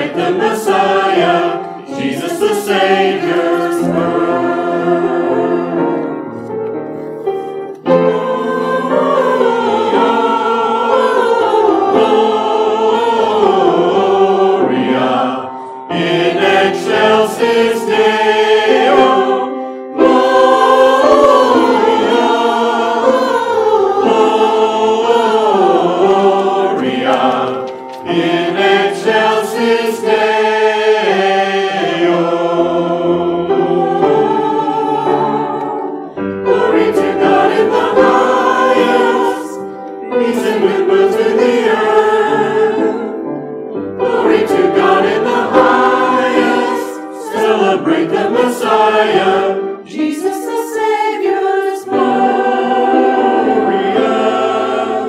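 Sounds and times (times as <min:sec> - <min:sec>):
church choir singing: 0:00.0 - 0:55.0.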